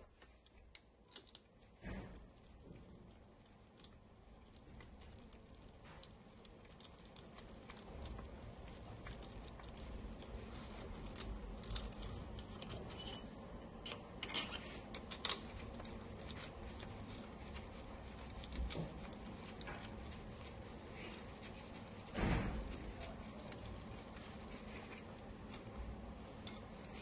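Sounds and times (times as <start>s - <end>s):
gloved hands clicking and rustling: 0.0s - 27.0s
low room hum: 0.0s - 27.0s.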